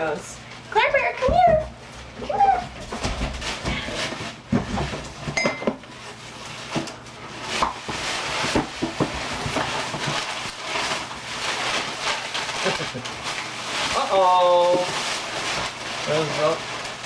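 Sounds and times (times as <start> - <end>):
rustling of items being unpacked: 0.0 - 17.0.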